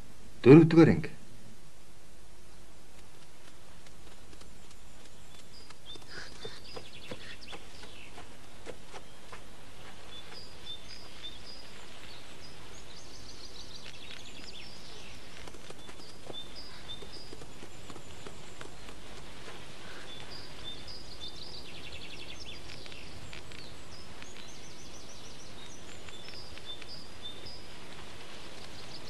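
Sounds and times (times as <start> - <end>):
steady background hiss: 0.0 - 29.0
small birds chirping: 2.3 - 29.0.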